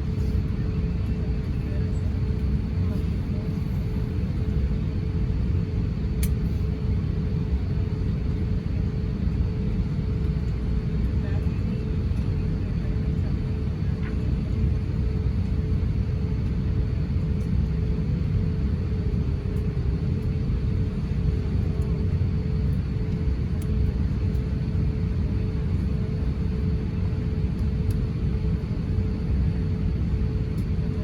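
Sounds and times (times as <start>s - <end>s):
constant hum: 0.0s - 31.0s
low rumble of jet engines: 0.0s - 31.0s.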